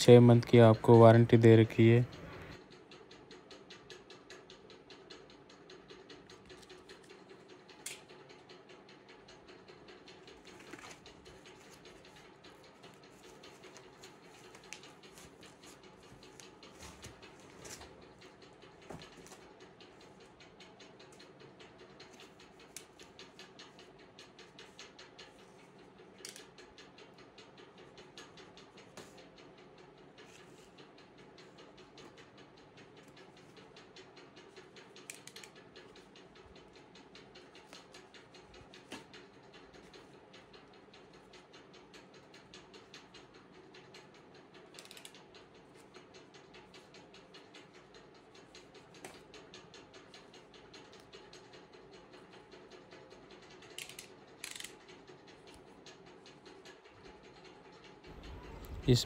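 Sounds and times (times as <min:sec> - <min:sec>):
steady faint hum: 0:00.0 - 0:59.0.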